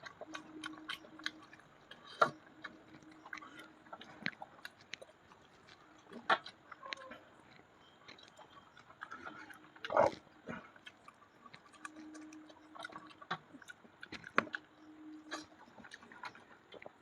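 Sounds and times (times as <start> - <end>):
low steady hum: 0.0 - 17.0
wet chewing mouth sounds: 0.0 - 17.0.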